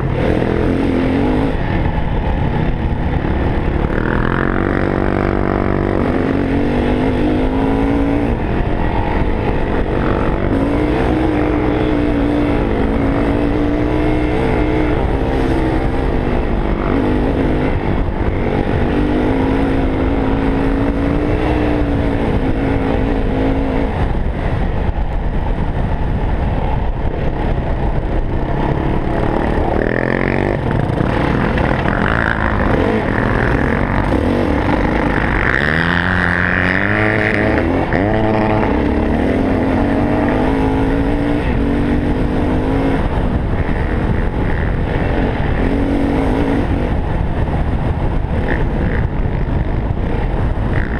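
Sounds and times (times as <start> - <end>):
dirt bike engine revving: 0.0 - 24.7, 27.3 - 50.9.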